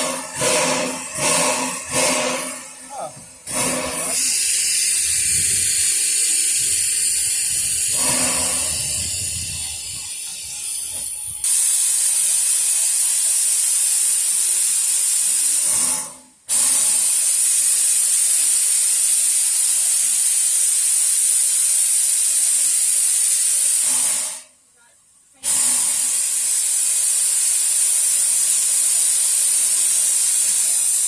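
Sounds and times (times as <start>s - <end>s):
steam locomotive hissing: 0.0s - 24.6s, 25.4s - 31.0s.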